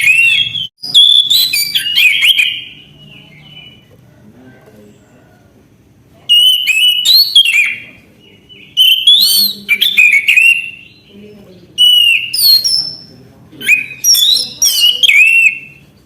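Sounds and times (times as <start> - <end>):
thrush singing whistled phrases: 0.0 - 3.9, 6.3 - 11.1, 11.8 - 15.9.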